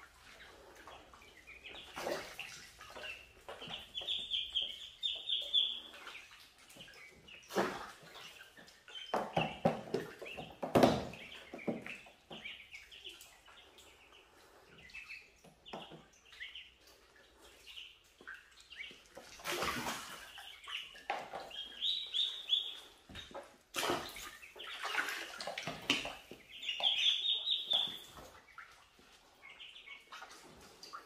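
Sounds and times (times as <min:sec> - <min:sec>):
water splashing: 0:00.0 - 0:14.1, 0:15.7 - 0:31.0
ducklings peeping: 0:00.0 - 0:31.0.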